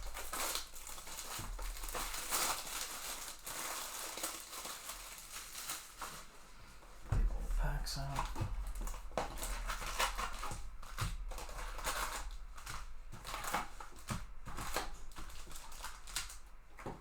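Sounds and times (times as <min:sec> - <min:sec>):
foil card packs crinkling: 0:00.0 - 0:17.0.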